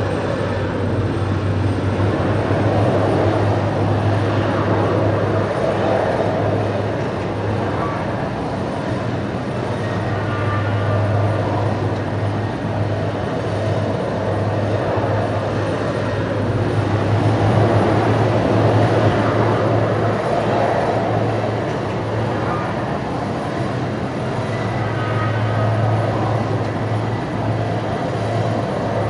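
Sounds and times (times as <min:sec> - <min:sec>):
jet aircraft engines rushing: 0:00.0 - 0:29.0.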